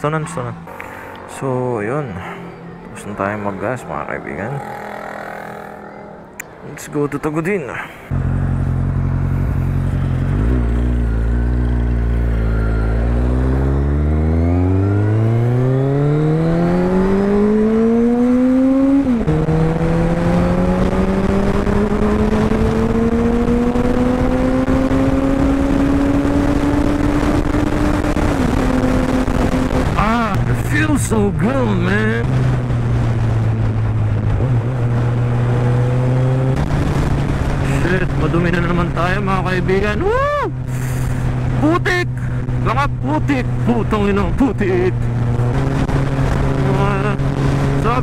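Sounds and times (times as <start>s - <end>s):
motorcycle engine accelerating: 8.1s - 48.0s.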